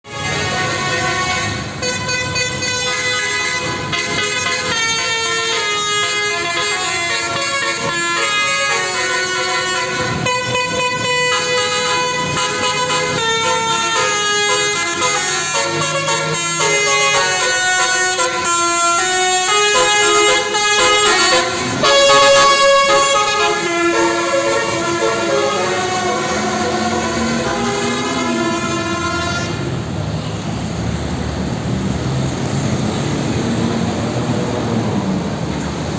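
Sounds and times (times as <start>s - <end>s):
multi-tone musical horn: 0.0s - 29.8s.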